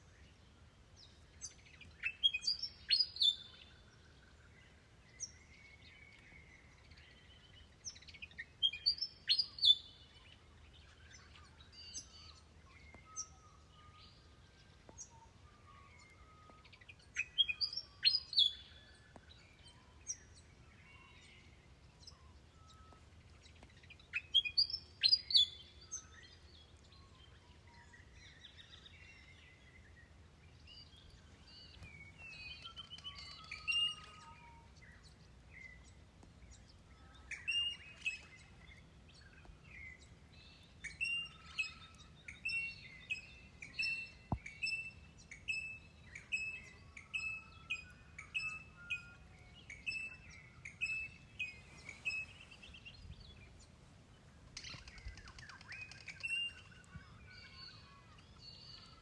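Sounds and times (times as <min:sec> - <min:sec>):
bird singing loud clear song: 0:00.0 - 0:59.0
birds calling and chattering: 0:00.0 - 0:59.0.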